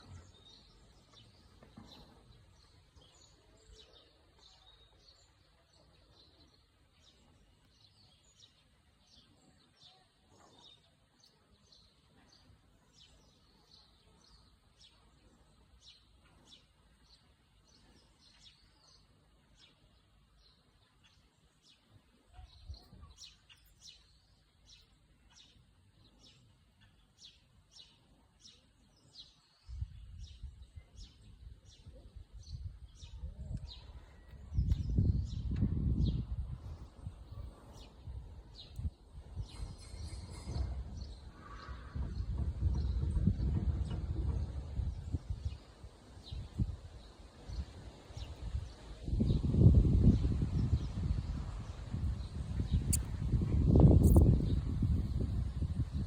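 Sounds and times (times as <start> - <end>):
faint bird chirping: 0.0 - 56.0.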